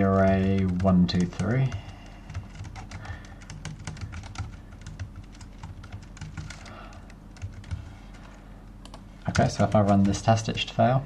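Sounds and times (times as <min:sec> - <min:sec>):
computer keyboard typing: 0:00.0 - 0:10.5
low steady hum: 0:00.0 - 0:11.0.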